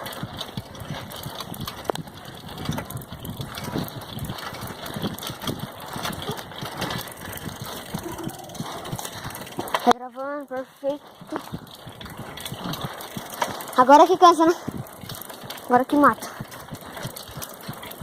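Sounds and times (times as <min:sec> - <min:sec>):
bicycle clicking and rattling: 0:00.0 - 0:18.0
steady rushing noise: 0:00.0 - 0:18.0.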